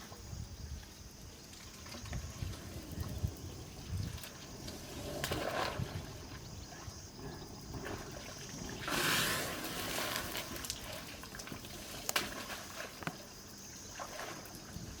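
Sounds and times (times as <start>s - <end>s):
water trickling: 0.0s - 15.0s
elephant splashing water: 1.5s - 15.0s.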